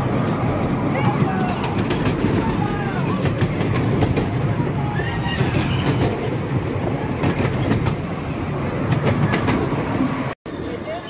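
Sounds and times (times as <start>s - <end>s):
wheels clicking over rail joints: 0.0s - 10.0s
train carriage rumbling: 0.0s - 11.0s.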